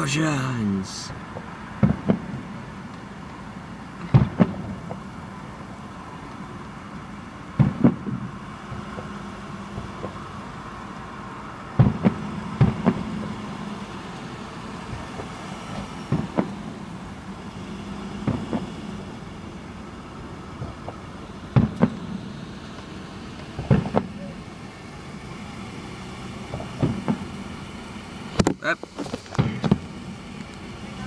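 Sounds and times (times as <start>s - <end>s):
steady background noise: 0.0s - 31.0s.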